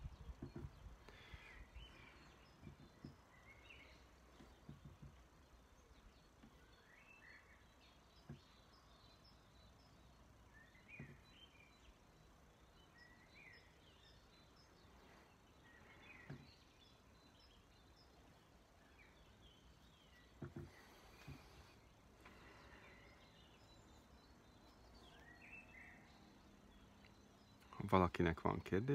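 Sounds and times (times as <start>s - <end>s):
faint birds chirping: 0.0s - 28.9s.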